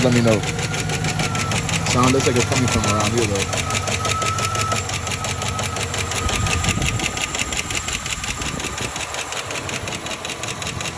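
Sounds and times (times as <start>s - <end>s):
engine idling with ticking knock: 0.0s - 10.9s.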